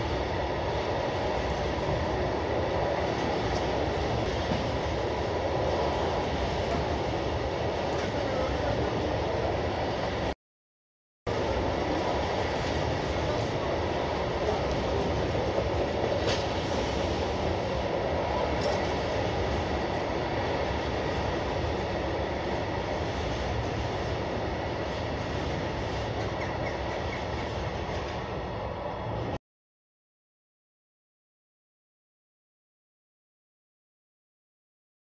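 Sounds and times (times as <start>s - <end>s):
train rumbling: 0.0s - 10.4s, 11.3s - 29.4s.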